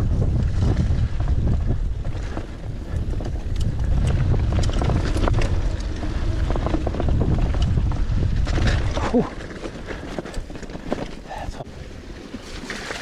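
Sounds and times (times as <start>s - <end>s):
wind buffeting microphone: 0.0s - 12.2s
mountain bike rolling on dirt: 0.0s - 13.0s
bike clicks and rattles: 0.1s - 11.5s, 12.1s - 13.0s.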